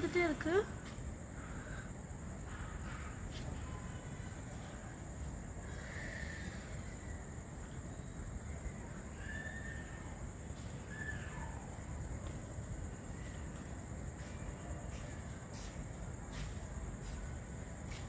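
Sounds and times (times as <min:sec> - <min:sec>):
high-pitched insect trill: 0:00.0 - 0:18.0
low background noise: 0:00.0 - 0:18.0.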